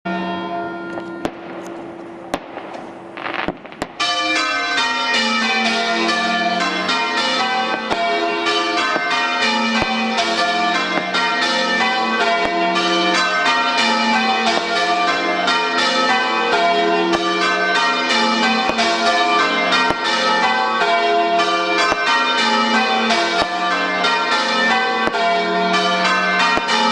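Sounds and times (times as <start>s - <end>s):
church bells ringing: 0.0s - 26.9s.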